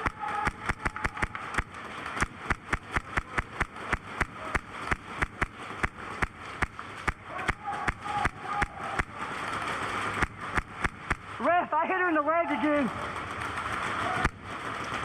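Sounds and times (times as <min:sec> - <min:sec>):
airsoft guns firing rapidly: 0:00.0 - 0:15.0.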